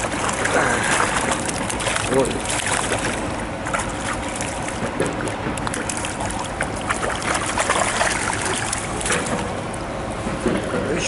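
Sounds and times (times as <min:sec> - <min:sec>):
fish splashing in water: 0:00.0 - 0:09.8.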